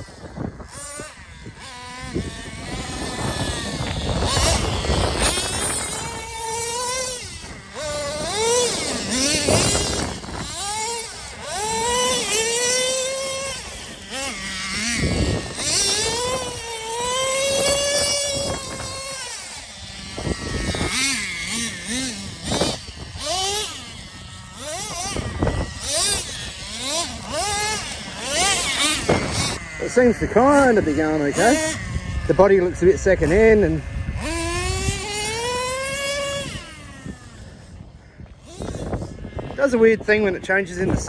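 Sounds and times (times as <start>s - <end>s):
rc truck nitro engine revving: 0.0s - 41.0s.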